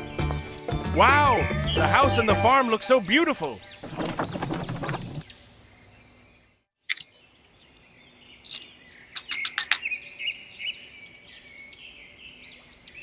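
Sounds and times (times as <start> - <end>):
small birds chirping and singing: 0.0 - 13.0.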